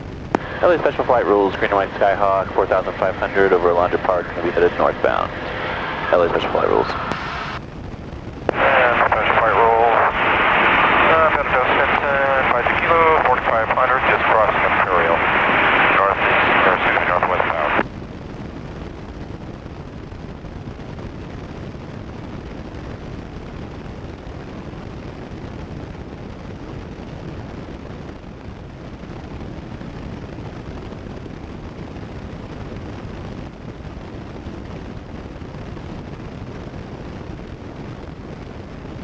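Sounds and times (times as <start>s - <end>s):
muffled aircraft engine drone: 0.0s - 39.0s.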